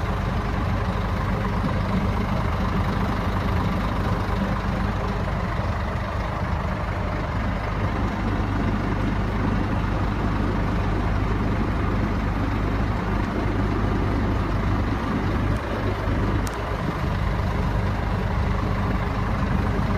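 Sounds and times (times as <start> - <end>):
truck diesel engine idling: 0.0 - 19.9.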